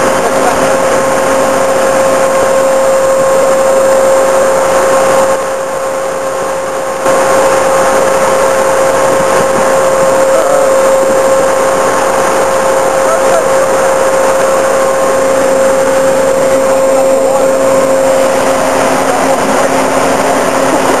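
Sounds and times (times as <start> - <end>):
diesel engine of armored vehicle: 0.0 - 21.0
steady mechanical whine: 0.0 - 21.0.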